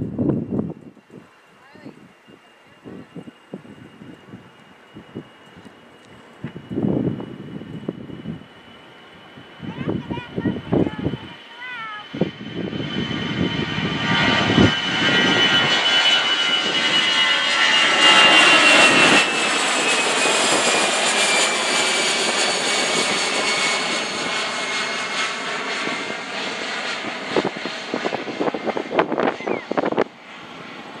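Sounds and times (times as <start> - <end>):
jet plane passing overhead: 0.0 - 31.0.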